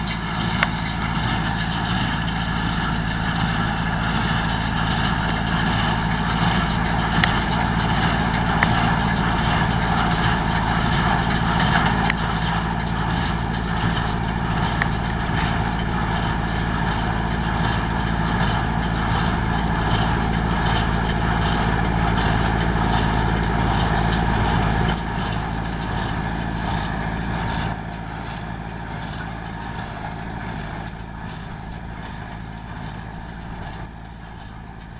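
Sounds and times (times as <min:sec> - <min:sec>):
hay baler: 0:00.0 - 0:34.9
tractor engine running: 0:00.0 - 0:34.9.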